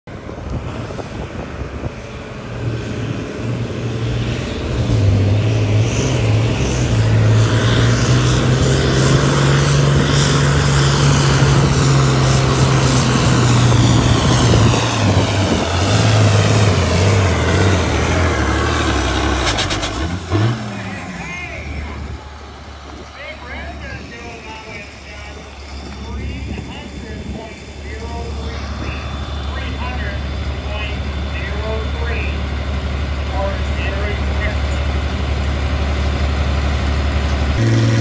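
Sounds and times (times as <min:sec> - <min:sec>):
tractor diesel engine under load: 0:00.2 - 0:38.0.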